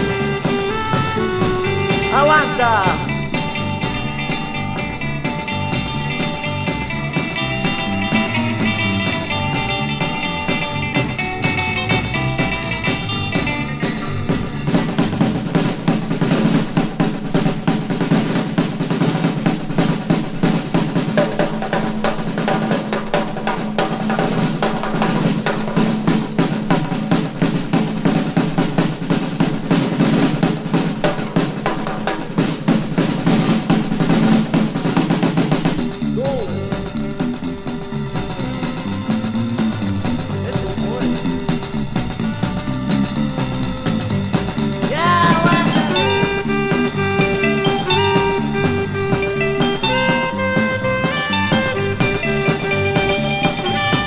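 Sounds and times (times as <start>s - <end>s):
band playing a melody: 0.0s - 54.0s
drum kit solo: 0.0s - 54.0s.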